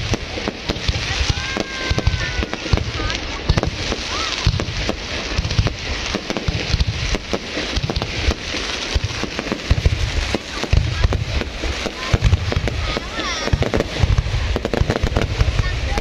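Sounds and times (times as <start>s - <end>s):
fireworks booms: 0.0s - 16.0s
fireworks cracks and pops: 0.0s - 16.0s.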